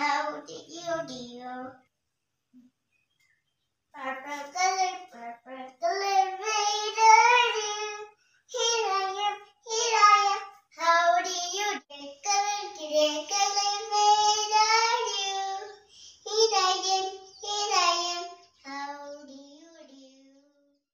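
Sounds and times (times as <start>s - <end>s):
girl singing: 0.0s - 1.7s, 4.0s - 20.8s.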